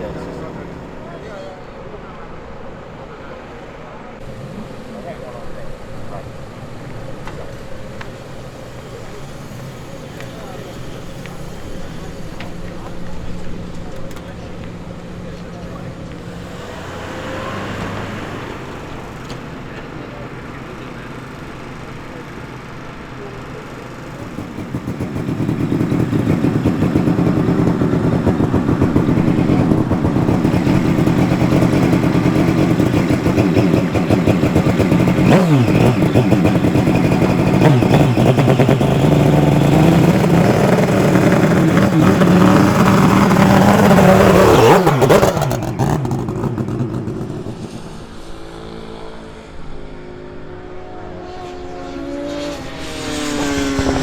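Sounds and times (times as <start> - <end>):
quieter engine: 0.0 - 54.0
racing motorcycle engine passing: 0.0 - 54.0.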